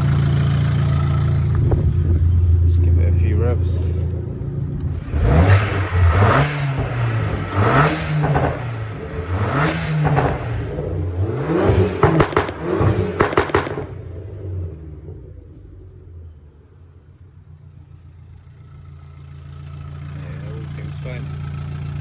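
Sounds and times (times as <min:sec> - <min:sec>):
car engine idling: 0:00.0 - 0:22.0
car engine revving: 0:00.0 - 0:22.0
exhaust clicks and crackles: 0:00.0 - 0:22.0.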